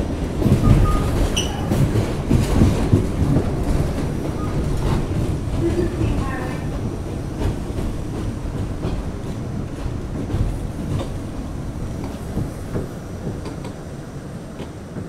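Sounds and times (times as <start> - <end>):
subway train rumble: 0.0 - 15.0
wheels clicking over rail joints: 0.2 - 13.8.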